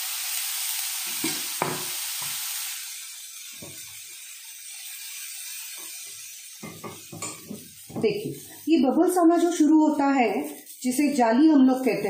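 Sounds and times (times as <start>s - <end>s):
batter sizzling in hot pan: 0.0s - 12.0s.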